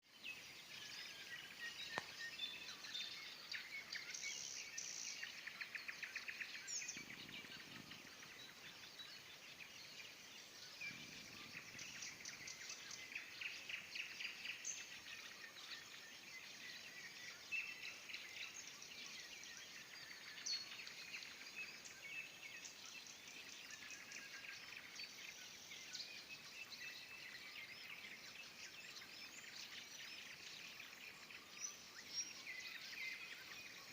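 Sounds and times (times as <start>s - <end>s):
faint nightingale singing: 0.0s - 33.9s.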